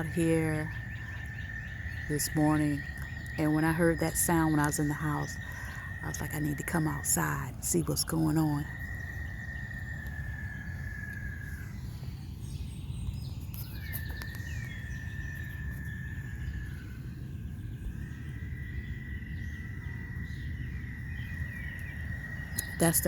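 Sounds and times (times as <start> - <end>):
faint chirps: 0.0 - 23.0.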